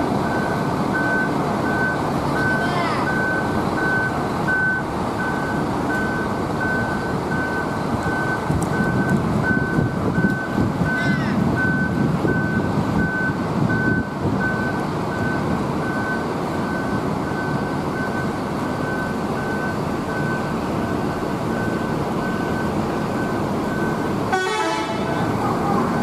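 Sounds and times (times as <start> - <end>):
reversing alarm beeping: 0.2 - 11.0, 11.6 - 26.0.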